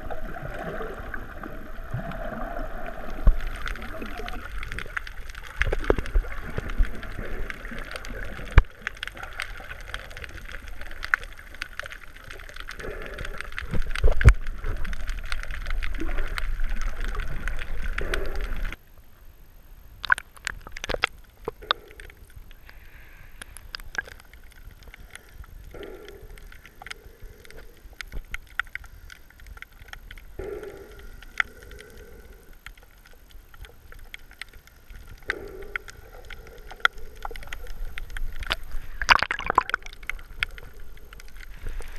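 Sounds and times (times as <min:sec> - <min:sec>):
muffled underwater noise: 0:00.0 - 0:18.8, 0:20.0 - 0:41.9
small underwater clicks and crackles: 0:00.0 - 0:41.9.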